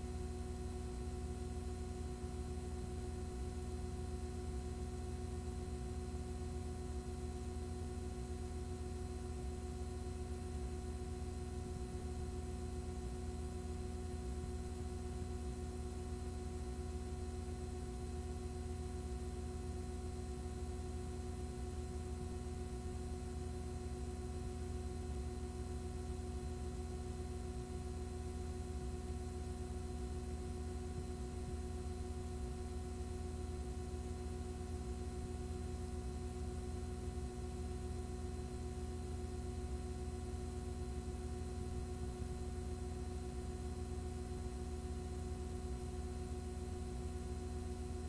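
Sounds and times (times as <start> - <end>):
electrical hum with held tones: 0.0 - 48.0.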